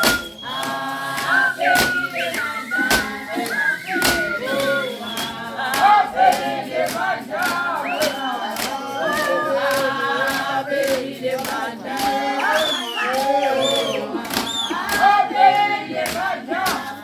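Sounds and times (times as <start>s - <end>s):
sharp beats: 0.0s - 17.0s
voices singing in harmony: 0.0s - 17.0s.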